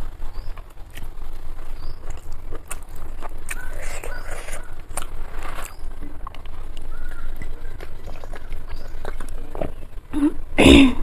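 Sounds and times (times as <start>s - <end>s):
person chewing and smacking: 0.0s - 10.0s
steady low hum: 0.0s - 11.0s.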